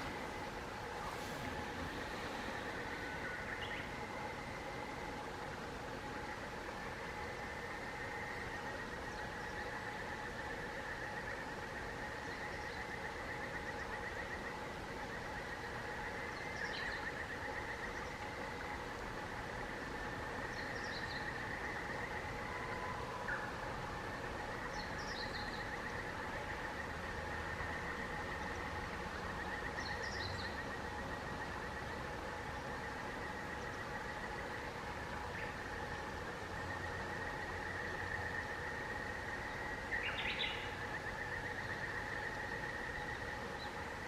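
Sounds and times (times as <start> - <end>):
stream hiss: 0.0 - 44.0.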